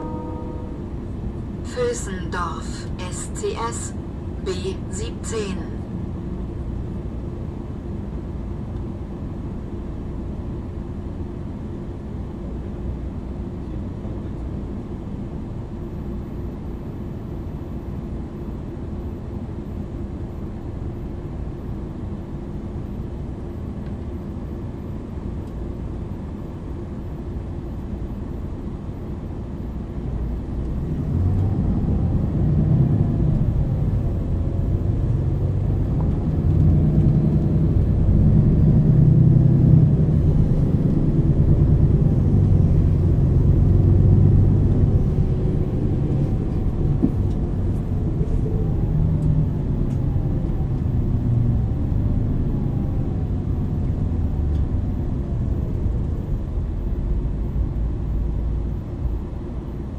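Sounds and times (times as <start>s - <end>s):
drivetrain whine: 0.0s - 11.7s, 14.2s - 59.9s
bus diesel engine running: 0.0s - 59.9s.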